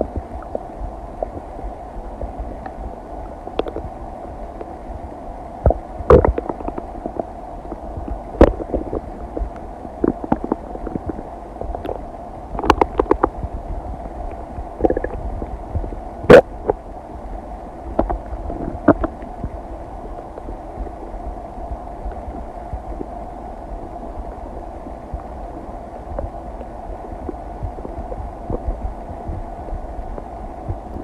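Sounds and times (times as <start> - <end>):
stomach gurgles: 0.0 - 4.8, 5.6 - 16.9, 17.9 - 21.4, 22.0 - 23.2, 23.8 - 31.0
faint hum: 0.0 - 31.0.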